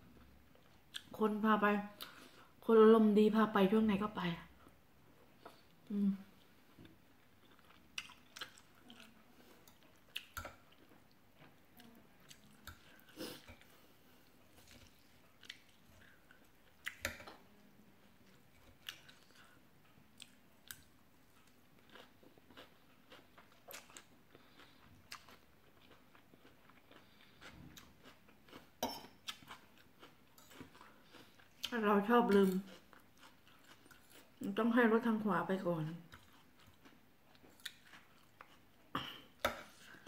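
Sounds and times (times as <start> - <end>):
person chewing food: 0.0 - 1.2, 4.6 - 34.5, 35.9 - 40.0.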